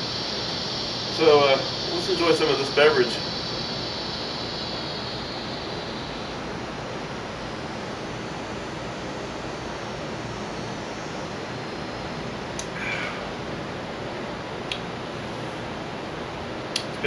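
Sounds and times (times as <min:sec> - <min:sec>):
background hiss and rumble: 0:00.0 - 0:17.0.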